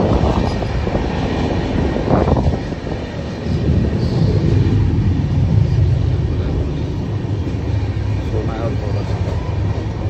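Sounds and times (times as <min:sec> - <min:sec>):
rushing air: 0:00.0 - 0:10.0
train wheels rumbling on track: 0:00.0 - 0:10.0.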